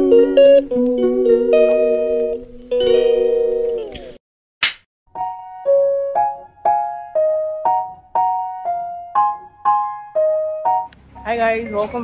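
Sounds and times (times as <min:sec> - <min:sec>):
keyboard chords: 0:00.0 - 0:04.1, 0:05.1 - 0:12.0.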